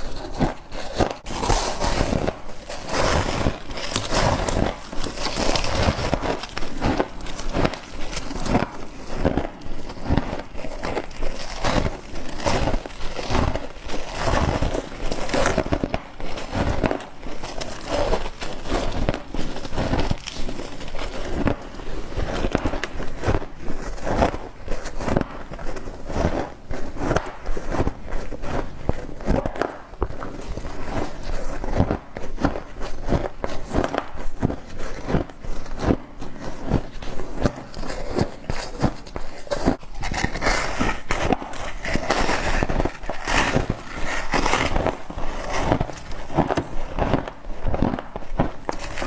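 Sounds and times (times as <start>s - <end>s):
ice being chewed crunching: 0.0s - 49.0s.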